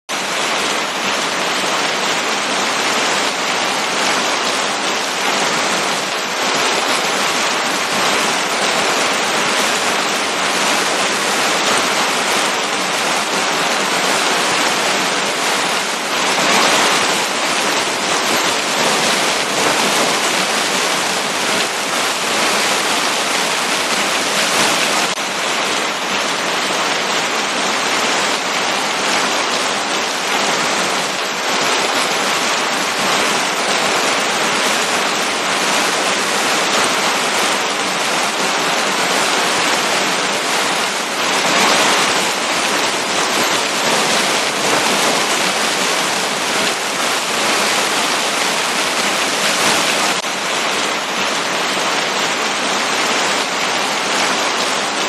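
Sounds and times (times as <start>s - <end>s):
heavy rain pouring: 0.1s - 55.0s.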